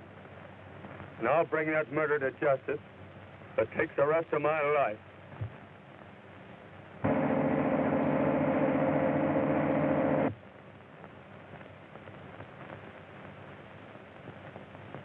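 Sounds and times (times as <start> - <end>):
faint hiss: 0.0 - 8.2, 10.1 - 15.0.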